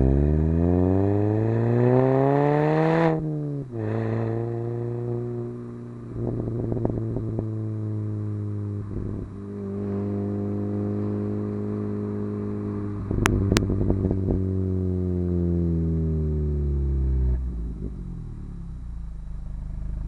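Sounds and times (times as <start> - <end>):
car engine running: 0.0 - 20.0
exhaust crackling: 0.0 - 20.0.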